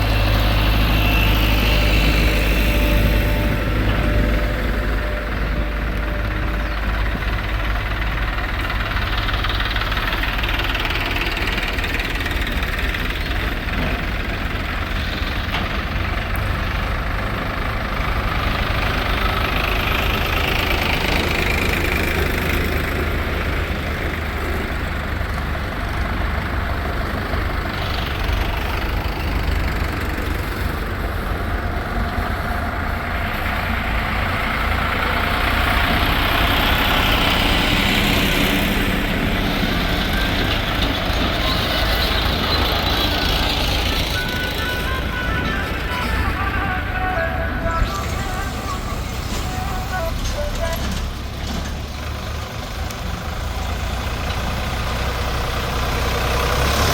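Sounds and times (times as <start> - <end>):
diesel engine rumbling: 0.0 - 56.9.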